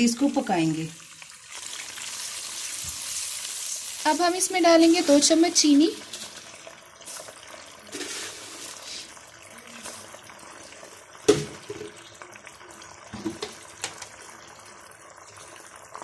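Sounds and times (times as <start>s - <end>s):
sauce bubbling in a wok: 0.0s - 16.0s.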